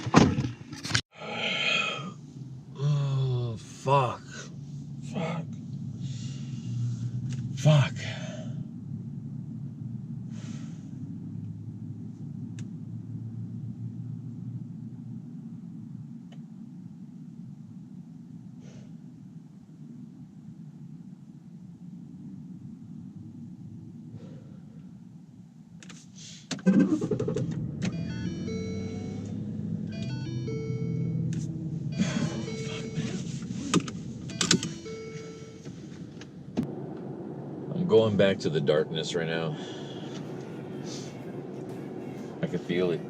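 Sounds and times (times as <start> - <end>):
car engine rumble: 0.0 - 43.0
road noise: 0.0 - 43.0.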